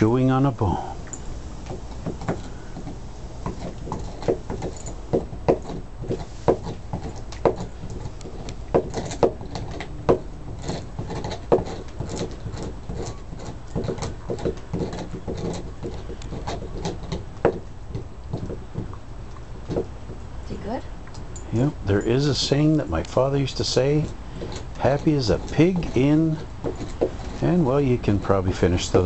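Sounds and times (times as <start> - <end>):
dog gnawing on bone: 0.1 - 29.0.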